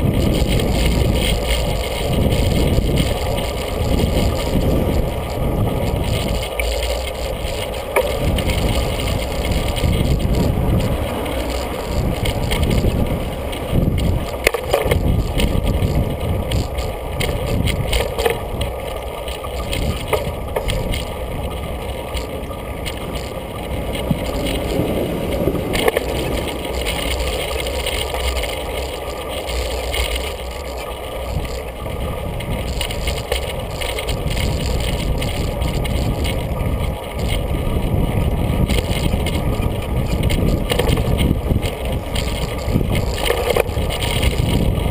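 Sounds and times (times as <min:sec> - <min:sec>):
bicycle rattling and knocking: 0:00.0 - 0:44.9
bicycle road noise rumble: 0:00.0 - 0:44.9
wind on microphone: 0:00.0 - 0:44.9.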